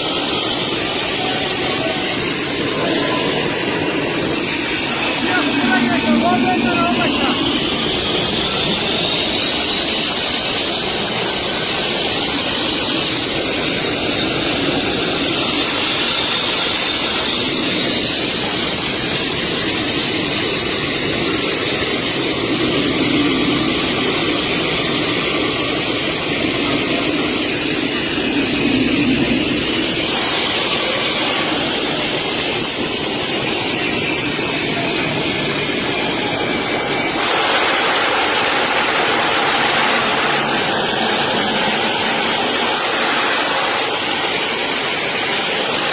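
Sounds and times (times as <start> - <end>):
faint high whine: 0.0 - 45.9
jet engines roaring: 0.0 - 45.9.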